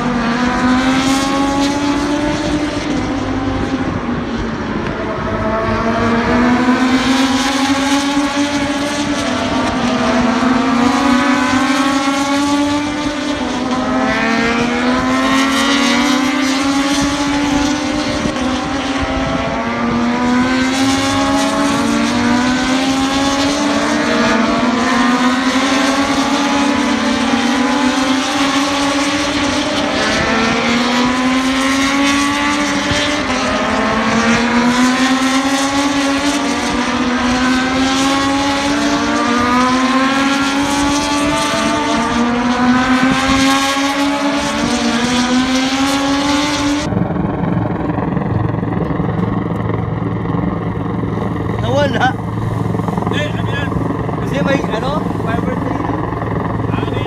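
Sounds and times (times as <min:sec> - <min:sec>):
racing motorcycle engines revving: 0:00.0 - 0:57.0.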